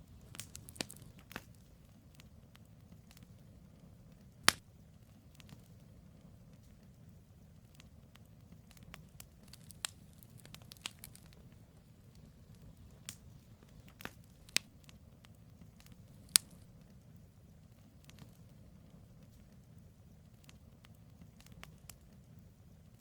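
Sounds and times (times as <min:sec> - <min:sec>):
campfire crackles and pops: 0:00.0 - 0:23.0
low rumble of fire: 0:00.0 - 0:23.0.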